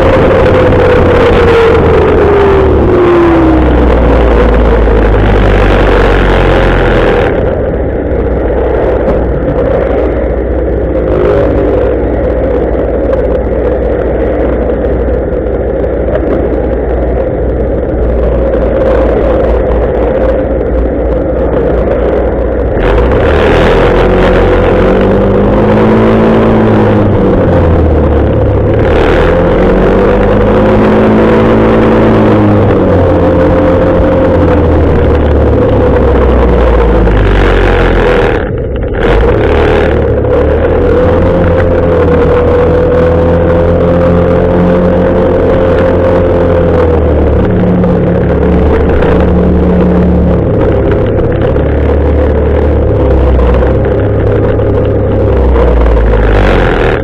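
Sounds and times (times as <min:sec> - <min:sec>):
motorcycle engine: 0:00.0 - 0:57.0
wind noise on microphone: 0:00.0 - 0:57.0.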